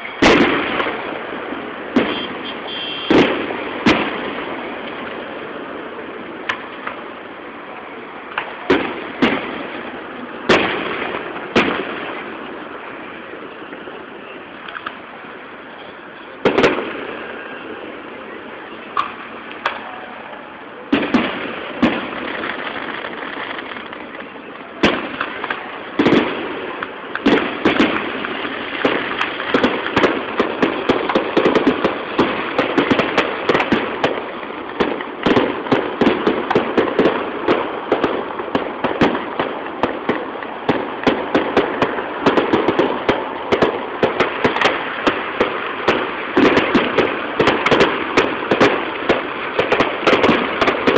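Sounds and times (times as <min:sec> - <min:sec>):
firework bangs: 0:00.0 - 0:50.9
fireworks crackling: 0:00.0 - 0:50.9.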